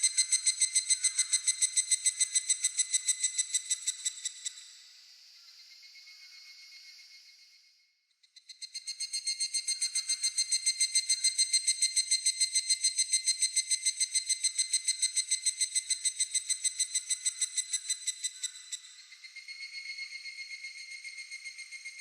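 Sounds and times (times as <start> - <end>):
faint insects chirring: 0.0 - 22.0.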